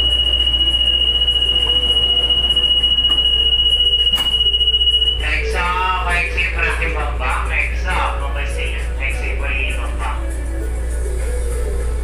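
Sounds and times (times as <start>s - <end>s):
steady high-pitched tone: 0.0s - 12.0s.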